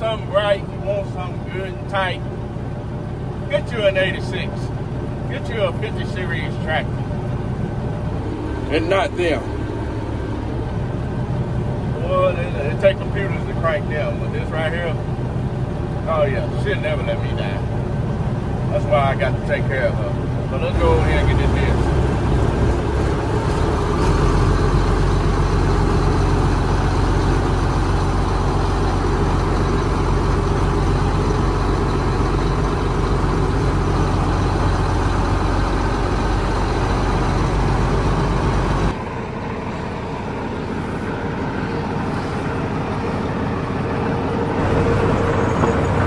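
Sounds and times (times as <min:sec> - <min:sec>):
diesel tractor engine running: 0:00.0 - 0:46.0.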